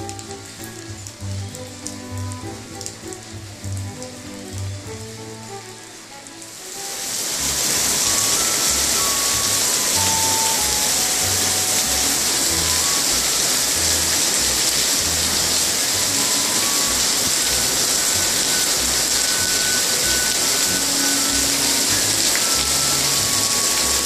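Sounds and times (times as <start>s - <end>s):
heavy rain on foliage: 0.0s - 24.0s.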